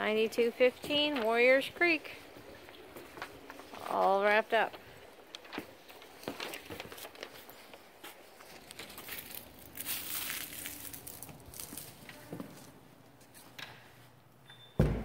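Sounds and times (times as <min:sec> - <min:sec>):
footsteps: 0:00.0 - 0:14.1.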